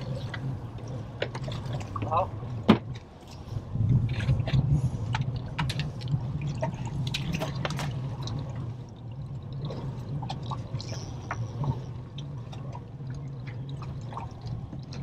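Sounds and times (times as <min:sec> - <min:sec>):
water splashing and dripping: 0:00.0 - 0:15.0.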